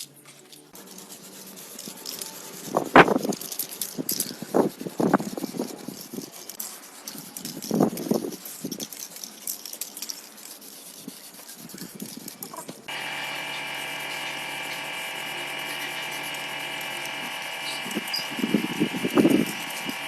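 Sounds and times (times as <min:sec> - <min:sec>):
small electric motor running: 0:00.8 - 0:08.2, 0:11.2 - 0:20.0.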